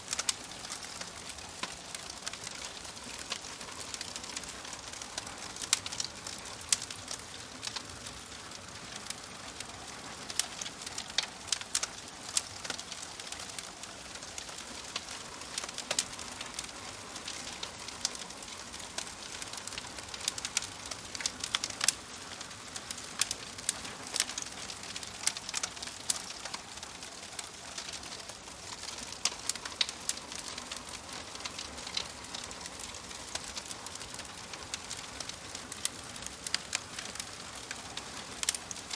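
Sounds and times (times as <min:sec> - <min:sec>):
soft steady hiss: 0:00.0 - 0:38.9
wood fire crackling and popping: 0:00.0 - 0:38.9.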